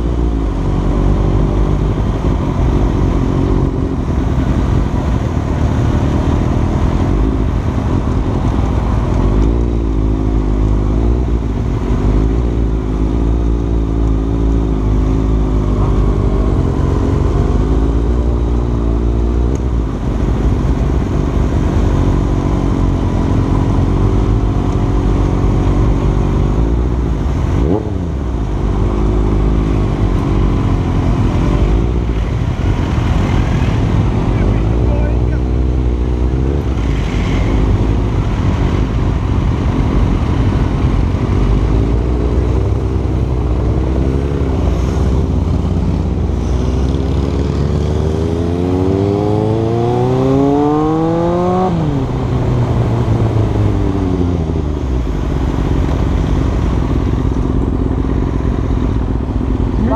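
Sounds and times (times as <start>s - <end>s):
low wind rumble: 0.0s - 59.9s
motorcycle engine cruising: 0.0s - 59.9s.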